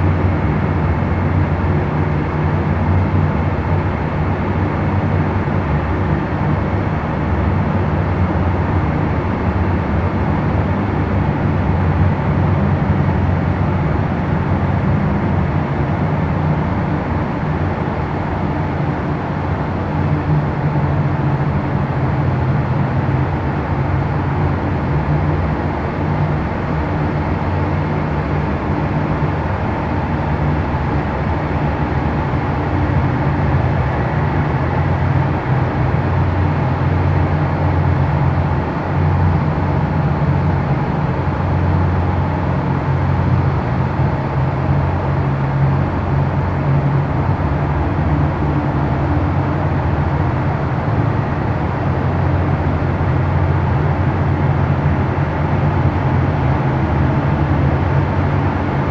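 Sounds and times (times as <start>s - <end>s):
low mechanical drone: 0.0s - 58.9s.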